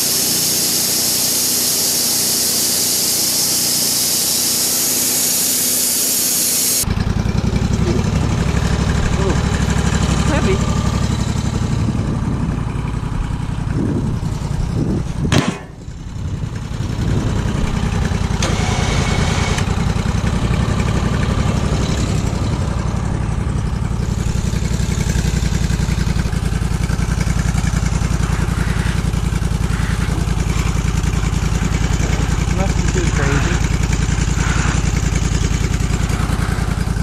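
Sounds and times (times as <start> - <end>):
sawmill gasoline engine running: 0.0 - 37.0.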